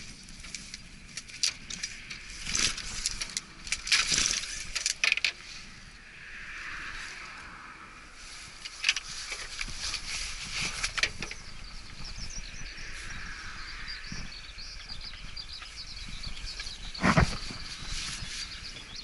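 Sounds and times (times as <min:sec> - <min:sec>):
small birds chirping: 0:00.0 - 0:07.4, 0:08.0 - 0:19.0.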